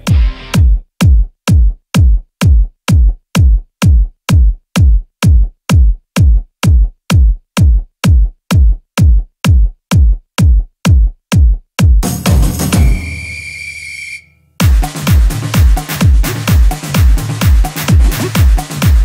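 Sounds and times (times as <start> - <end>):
electronic kick drum beating: 0.0 - 13.0, 14.6 - 19.0.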